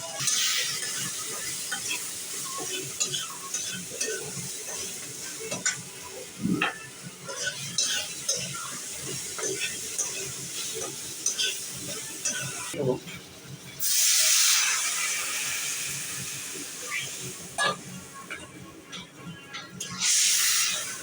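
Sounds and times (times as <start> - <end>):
potatoes sizzling in oil: 0.0 - 12.8, 13.7 - 19.1, 19.7 - 21.0.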